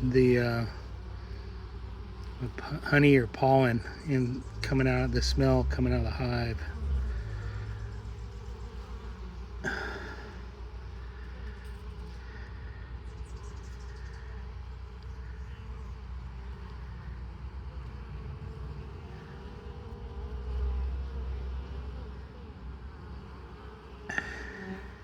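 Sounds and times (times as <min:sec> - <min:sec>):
bees buzzing: 0:00.0 - 0:25.0.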